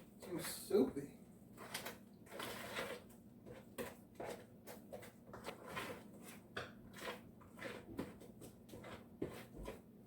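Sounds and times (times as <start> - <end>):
spoon stirring and scraping batter: 0.0 - 10.0.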